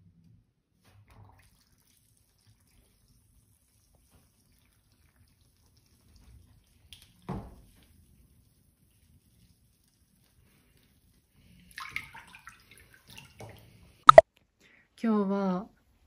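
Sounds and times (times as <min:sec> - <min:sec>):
small water drips: 0:01.0 - 0:14.2.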